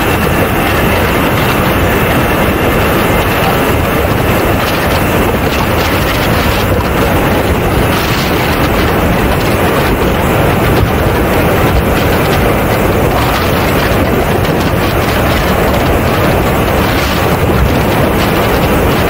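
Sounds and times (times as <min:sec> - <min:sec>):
model jet engine noise: 0:00.0 - 0:19.0
wind buffeting a microphone: 0:00.0 - 0:19.0.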